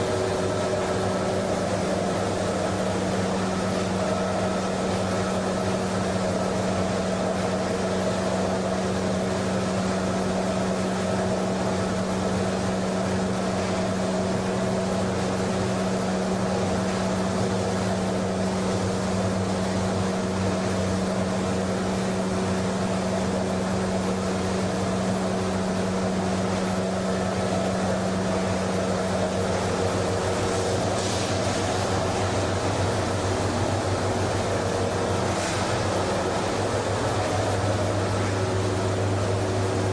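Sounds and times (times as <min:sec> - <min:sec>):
machinery humming with low drone: 0:00.0 - 0:39.9.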